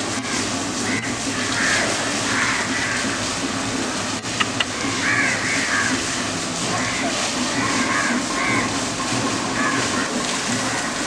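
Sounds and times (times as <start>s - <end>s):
hose water spraying and splashing: 0.0s - 11.0s.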